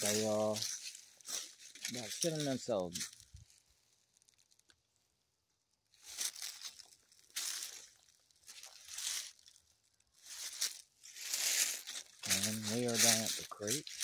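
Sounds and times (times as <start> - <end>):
footsteps crunching through dry leaves: 0.0 - 4.6, 6.0 - 14.0.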